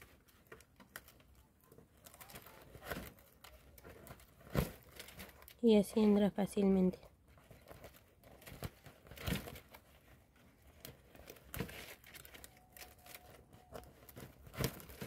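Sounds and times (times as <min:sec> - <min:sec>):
dry palm leaves rustling: 0:00.0 - 0:05.8, 0:07.3 - 0:15.0.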